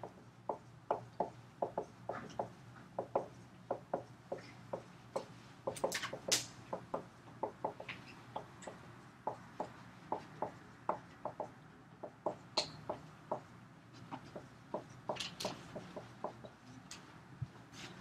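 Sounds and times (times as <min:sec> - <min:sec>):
marker tapping on whiteboard: 0:00.0 - 0:13.5, 0:14.1 - 0:16.6.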